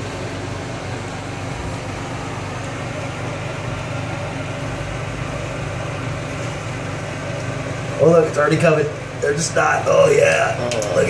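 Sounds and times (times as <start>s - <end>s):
ventilation fan humming: 0.0s - 11.0s.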